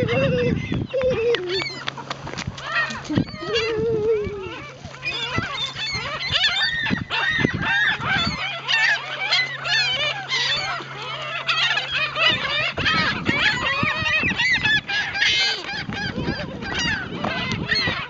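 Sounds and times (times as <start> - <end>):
gulls calling: 0.0 - 18.0.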